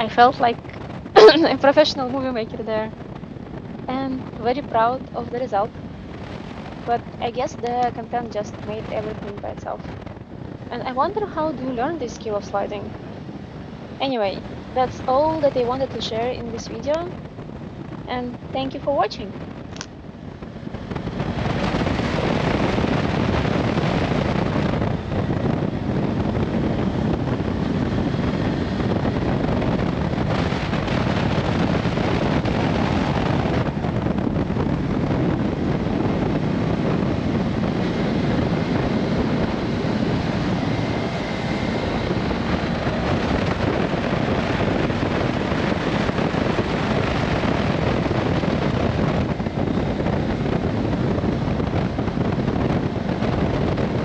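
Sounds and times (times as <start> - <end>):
motorcycle engine cruising: 0.0 - 54.0
wind buffeting microphone: 0.0 - 54.0.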